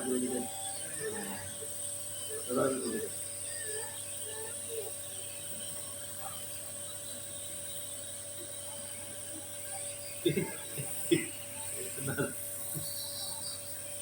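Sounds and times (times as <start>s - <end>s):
nebulizer humming and hissing: 0.0s - 14.0s.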